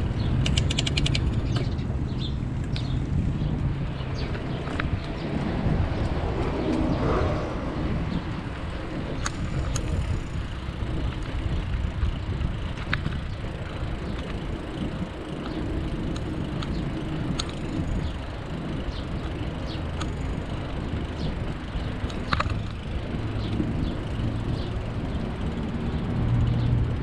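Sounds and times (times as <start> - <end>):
bicycle clicks and rattles: 0.0 - 27.0
rumble of wind and tyres: 0.0 - 27.0.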